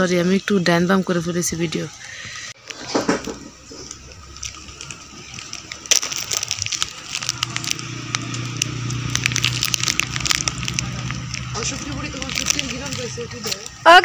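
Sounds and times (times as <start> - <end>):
plastic snack packet crinkling: 2.6 - 14.0.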